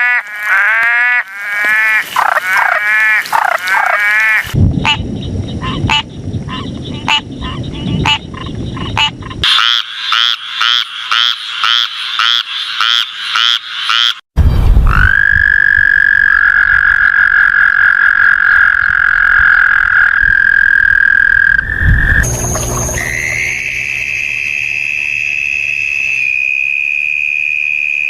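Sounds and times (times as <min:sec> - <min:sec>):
long high-pitched frog call: 0:00.0 - 0:14.2, 0:14.9 - 0:28.0.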